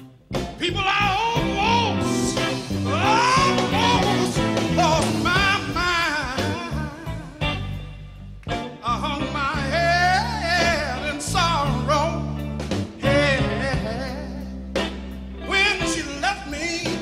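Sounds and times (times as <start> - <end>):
live band holding low chords: 0.0 - 17.0
man singing with vibrato: 0.5 - 7.9, 8.7 - 14.6, 15.4 - 17.0.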